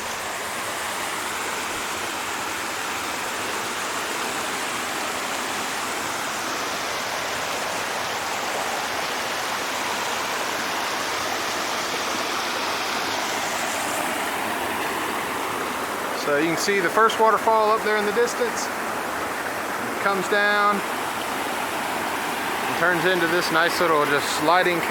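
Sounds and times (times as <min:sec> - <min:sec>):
water rushing down a waterfall: 0:00.0 - 0:24.9.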